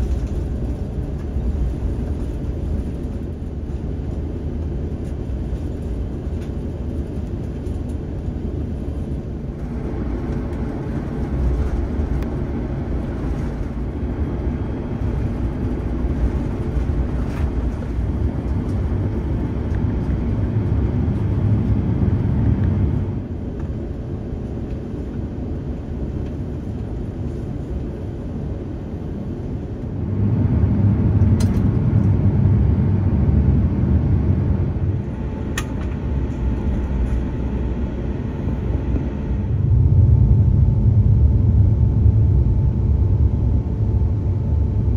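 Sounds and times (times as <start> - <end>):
aircraft engines rumbling: 0.0 - 44.9.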